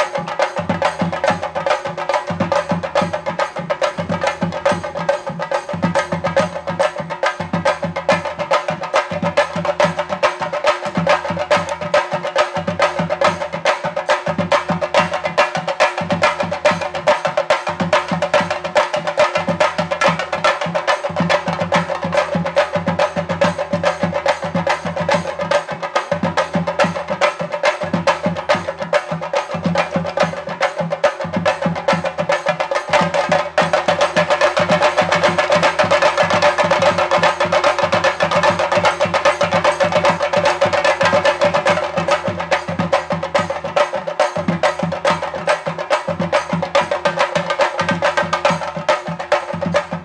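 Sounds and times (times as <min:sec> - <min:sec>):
drums beaten with sticks: 0:00.0 - 0:50.0.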